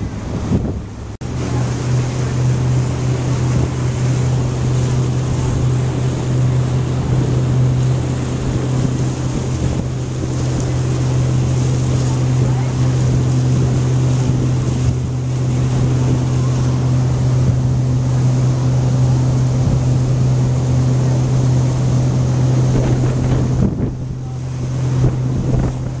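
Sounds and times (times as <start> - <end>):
outboard motor humming: 0.0 - 26.0
water rushing from wake: 0.0 - 26.0
wind on microphone: 0.0 - 26.0.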